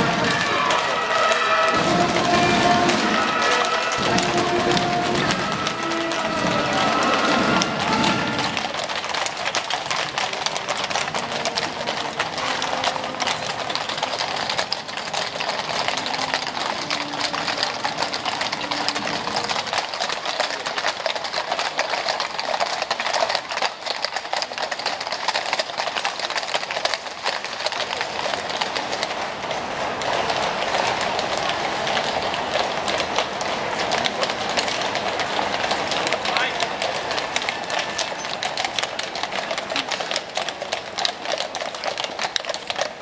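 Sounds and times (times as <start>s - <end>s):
hooves clattering on brick: 0.0s - 43.0s.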